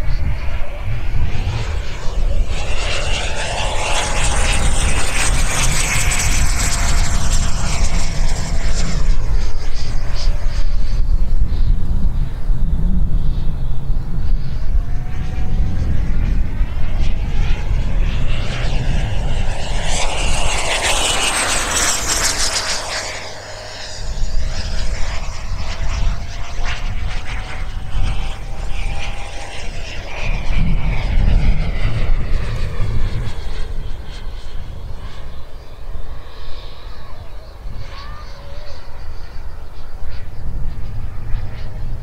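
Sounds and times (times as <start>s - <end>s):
electric ducted fan whine: 0.0s - 42.0s
wind rumble on microphone: 0.0s - 42.0s.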